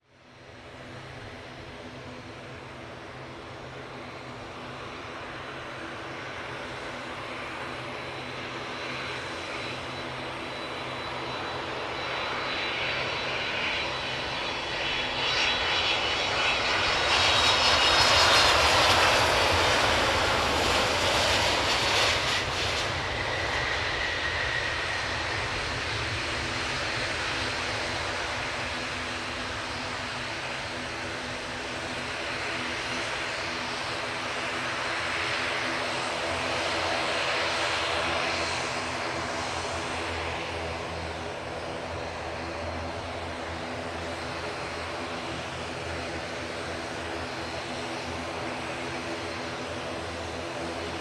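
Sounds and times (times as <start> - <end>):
jet plane passing by: 0.3 - 51.0.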